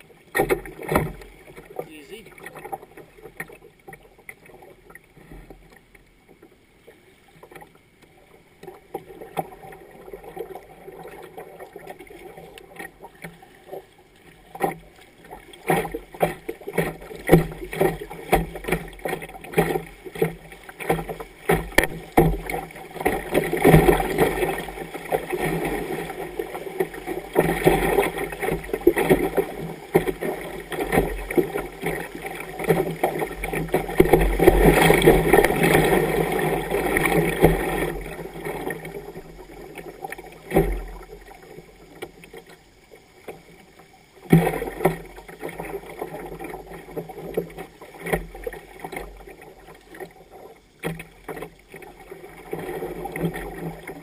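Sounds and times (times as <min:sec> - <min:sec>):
river water splashing against boat: 0:00.0 - 0:54.0.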